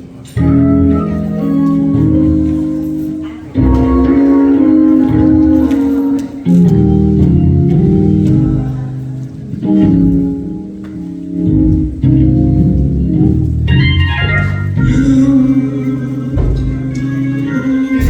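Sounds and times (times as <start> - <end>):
organ playing held chords: 0.0 - 18.0.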